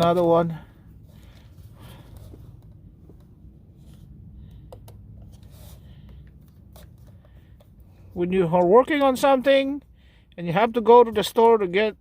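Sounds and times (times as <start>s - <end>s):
low steady hum: 0.0s - 11.1s.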